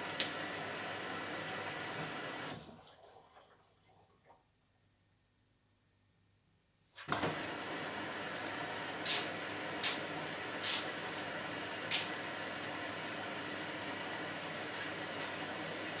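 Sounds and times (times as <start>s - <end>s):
washing machine filling with water: 0.0s - 4.6s, 7.0s - 16.0s.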